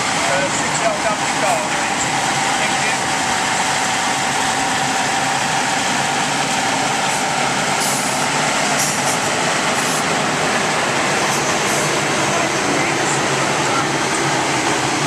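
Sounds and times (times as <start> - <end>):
heavy truck engine droning: 0.0 - 15.0.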